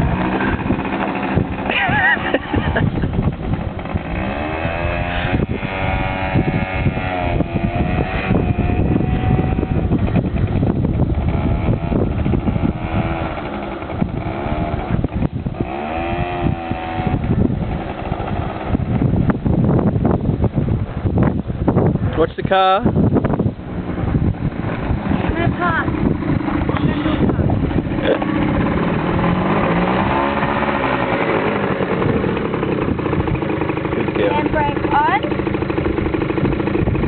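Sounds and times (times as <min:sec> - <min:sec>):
quad bike engine revving: 0:00.0 - 0:37.0.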